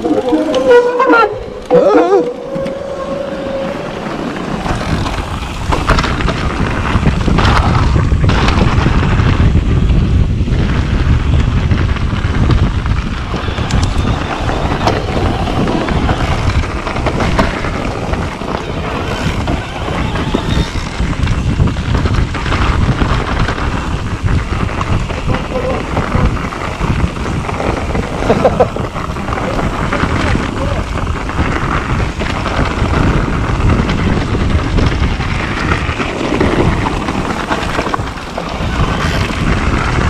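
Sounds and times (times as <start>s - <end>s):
bike tyres rolling on dirt: 0.0s - 40.0s
wind buffeting microphone: 0.0s - 40.0s
bike knocks and rattles: 2.3s - 40.0s.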